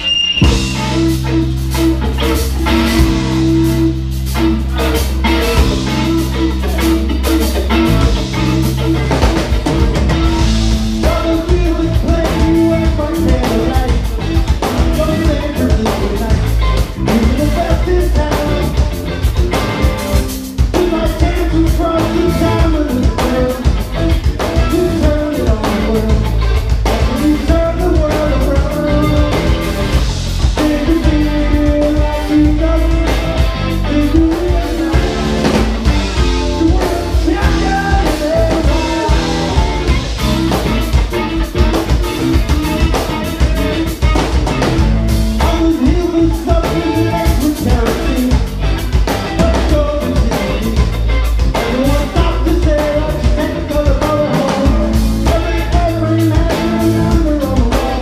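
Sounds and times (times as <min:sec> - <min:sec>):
bass guitar: 0:00.0 - 0:58.0
drum kit: 0:00.0 - 0:58.0
electric guitar: 0:00.0 - 0:58.0
man singing: 0:02.1 - 0:58.0.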